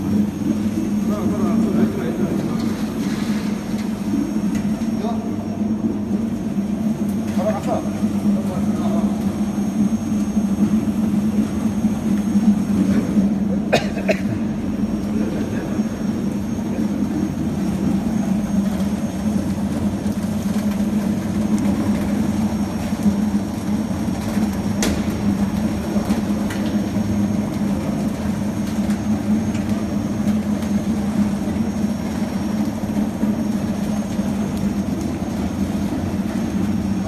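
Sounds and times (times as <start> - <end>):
machine humming and rumbling: 0.0 - 37.0.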